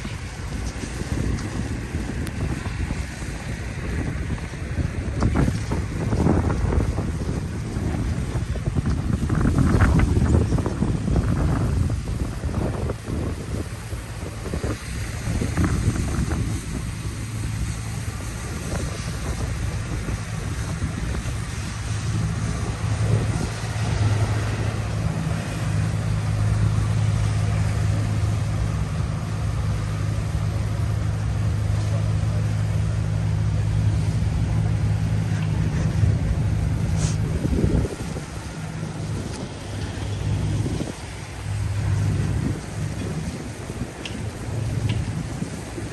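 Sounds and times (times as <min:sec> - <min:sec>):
street traffic: 0:00.0 - 0:45.9
vehicle engine humming: 0:00.0 - 0:45.9
wind buffeting microphone: 0:00.0 - 0:45.9.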